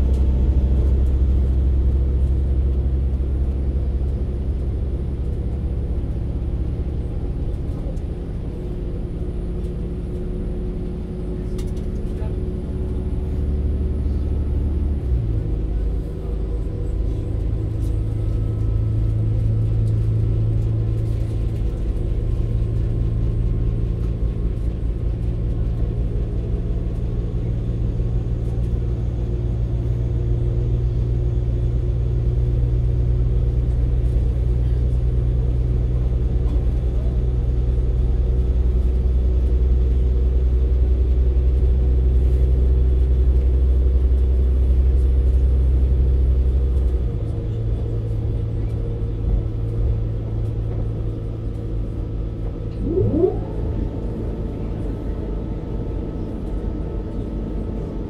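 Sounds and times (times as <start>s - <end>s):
train diesel engine drone: 0.0s - 58.0s.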